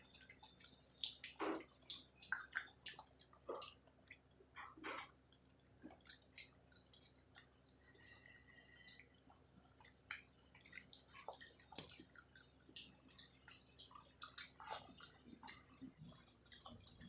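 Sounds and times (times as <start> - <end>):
wet eating sounds: 0.0 - 17.0.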